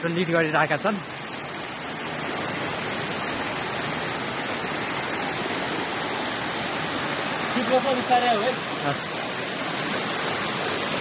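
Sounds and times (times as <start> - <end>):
waterfall cascading over rocks: 0.0 - 11.0.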